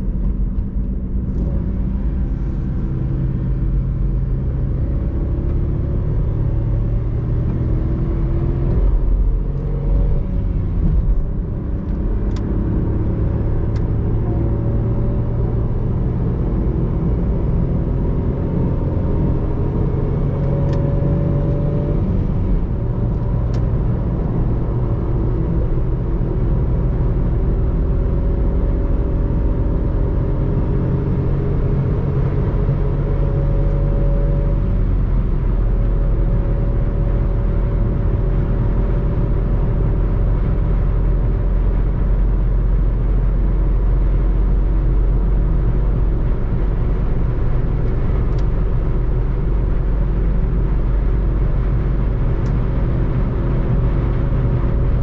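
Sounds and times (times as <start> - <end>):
car engine at high revs: 0.0 - 55.0
road and wind noise: 0.0 - 55.0.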